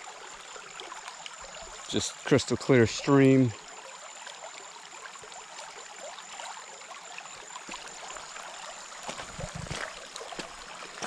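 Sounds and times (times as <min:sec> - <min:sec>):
stream babbling over stones: 0:00.0 - 0:11.0.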